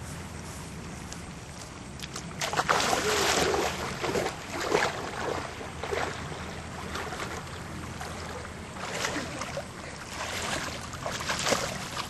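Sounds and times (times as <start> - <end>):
steady low rumble: 0.0 - 12.0
water sloshing and splashing: 2.0 - 12.0.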